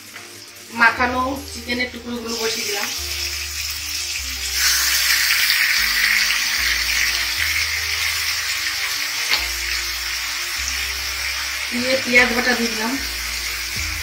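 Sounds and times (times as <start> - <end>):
background music with bass notes: 0.0 - 14.0
chicken sizzling in hot oil: 0.0 - 14.0.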